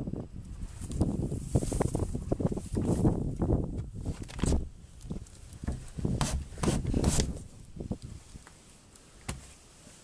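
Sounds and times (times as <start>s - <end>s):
clothing rustling on microphone: 0.5s - 10.0s.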